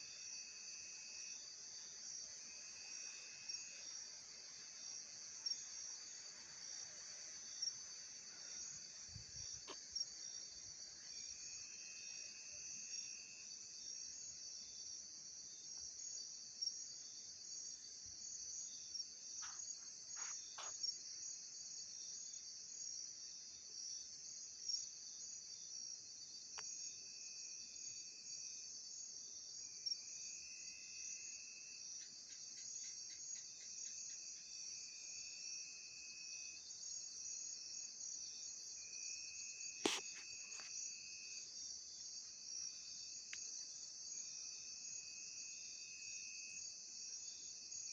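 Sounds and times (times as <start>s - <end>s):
crickets trilling: 0.0s - 23.0s, 29.8s - 47.9s
lower insect trill: 0.0s - 47.9s.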